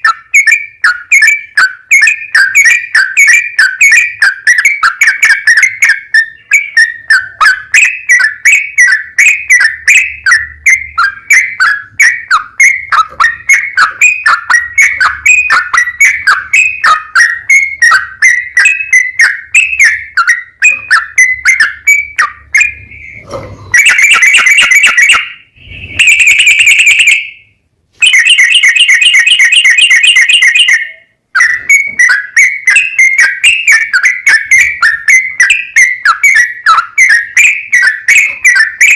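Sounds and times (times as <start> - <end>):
buzzy bird trills: 0.0 - 27.4, 28.0 - 38.9
bulbul whistled song: 0.0 - 38.9.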